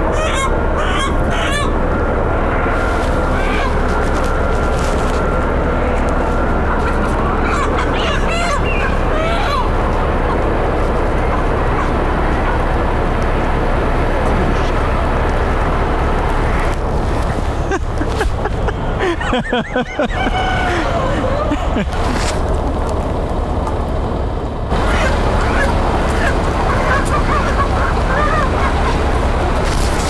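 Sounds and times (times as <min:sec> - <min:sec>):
chickens squawking: 0:00.0 - 0:22.3, 0:24.7 - 0:30.0
street noise: 0:00.0 - 0:30.0.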